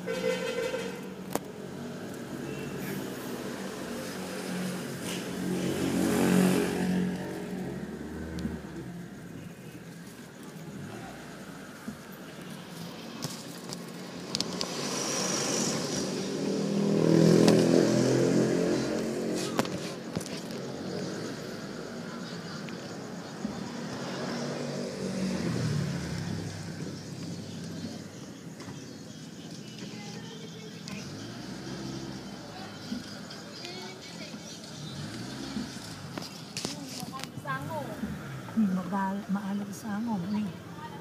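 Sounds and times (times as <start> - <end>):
motor vehicle engines on road: 0.0 - 41.0.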